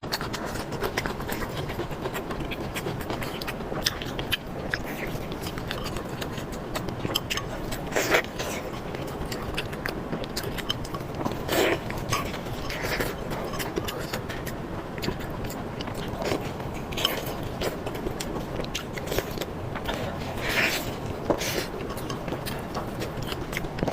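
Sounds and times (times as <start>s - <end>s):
person chewing: 0.0s - 23.9s
bites or slurps: 0.1s - 23.9s.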